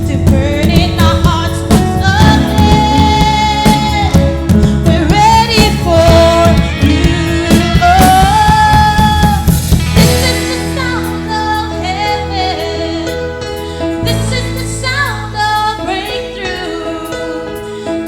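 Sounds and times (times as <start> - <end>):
drums: 0.0 - 18.0
lead singer: 0.0 - 18.0.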